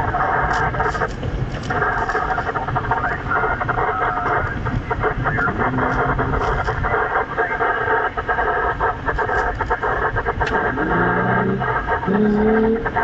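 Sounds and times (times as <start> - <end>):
vehicle engine and tyre noise: 0.0 - 13.0.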